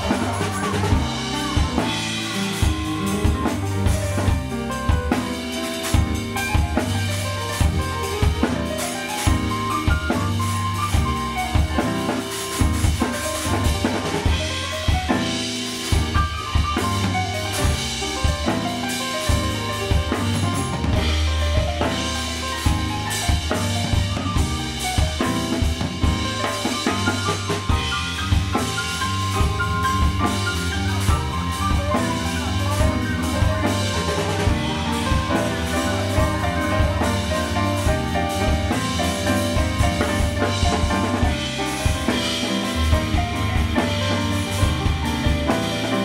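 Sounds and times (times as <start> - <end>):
drum kit: 0.0 - 46.0
electric bass line: 0.0 - 46.0
keyboard notes: 0.0 - 46.0.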